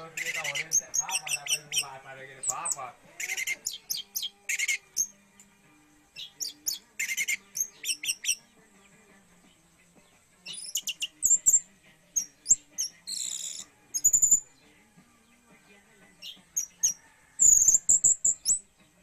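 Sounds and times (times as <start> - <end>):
thrush singing: 0.0 - 19.0.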